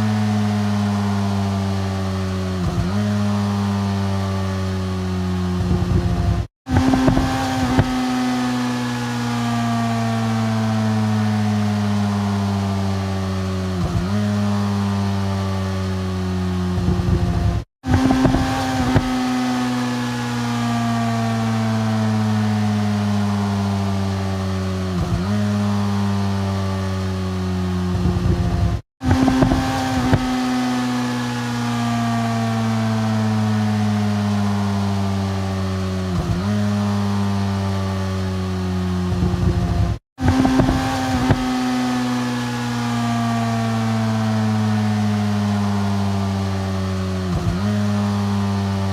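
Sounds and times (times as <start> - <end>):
motorcycle engine decelerating: 0.0 - 48.9.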